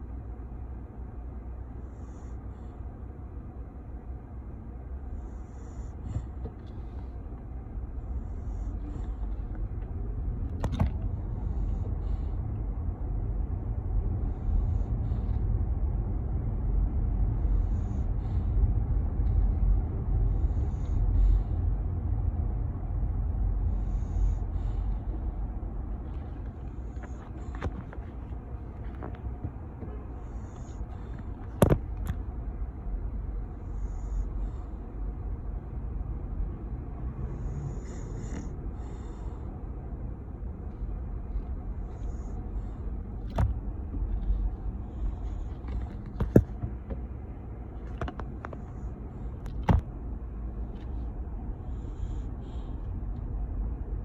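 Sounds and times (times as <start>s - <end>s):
car cabin road rumble: 0.0s - 54.0s.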